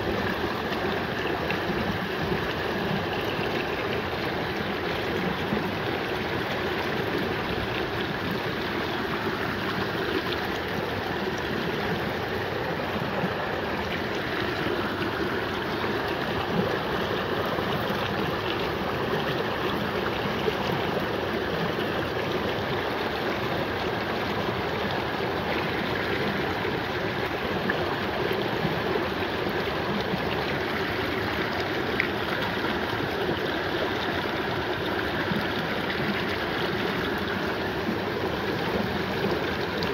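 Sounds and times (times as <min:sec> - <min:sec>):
stream rushing over cobbles: 0:00.0 - 0:39.9.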